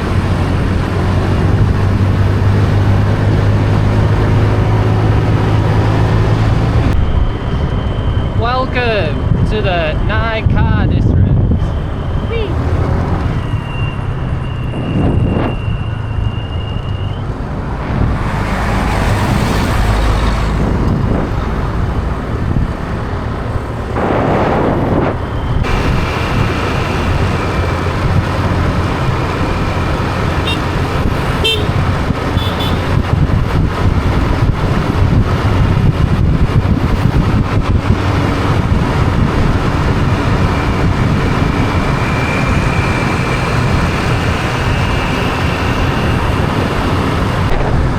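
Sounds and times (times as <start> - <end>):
motorbike engine and road rumble: 0.0 - 47.9.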